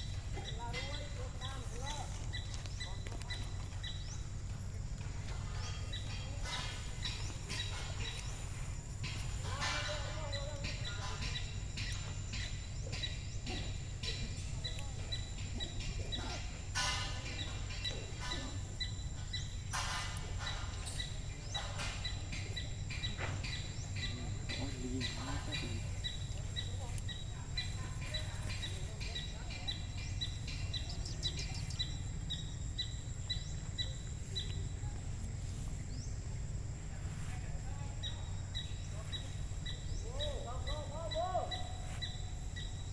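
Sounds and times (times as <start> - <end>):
bird chirping: 0.0 - 42.9
steady low rumble: 0.0 - 42.9.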